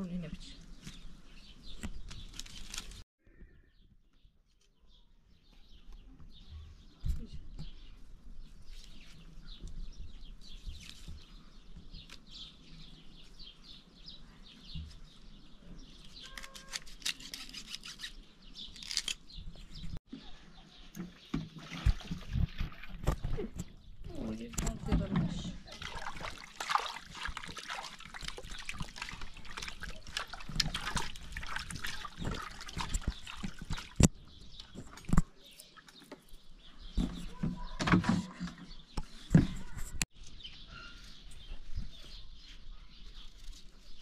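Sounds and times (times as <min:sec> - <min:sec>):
birds chirping: 0:03.3 - 0:44.0.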